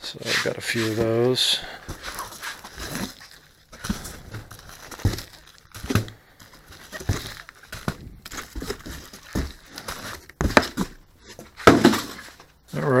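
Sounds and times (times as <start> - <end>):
packaging crinkling and rustling: 0.2 - 12.6
packs knocking: 0.9 - 12.6.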